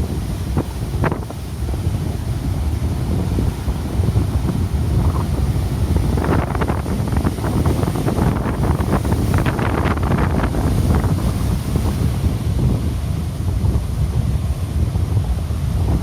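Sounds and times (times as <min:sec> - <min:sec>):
heavy surf: 0:00.0 - 0:16.0
wave breaking with hissing wash: 0:00.0 - 0:16.0
wind buffeting microphone: 0:00.0 - 0:16.0.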